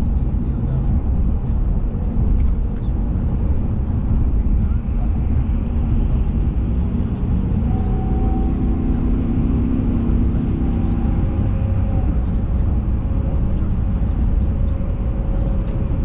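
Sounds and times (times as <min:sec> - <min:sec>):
engine hum: 0:00.0 - 0:16.0
vehicle engine and road rumble: 0:00.0 - 0:16.0.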